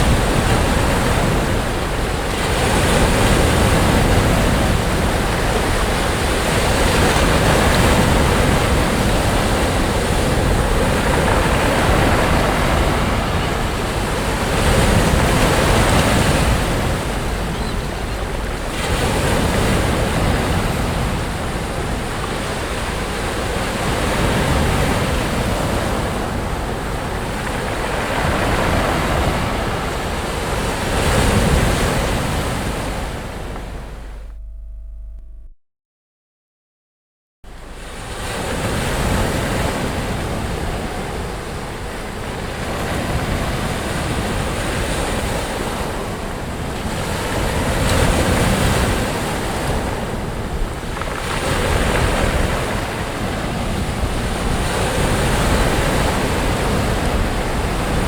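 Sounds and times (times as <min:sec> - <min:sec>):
sea waves breaking on a beach: 0:00.0 - 0:34.4, 0:37.5 - 0:58.0
wind on microphone: 0:00.0 - 0:35.5, 0:37.5 - 0:58.0.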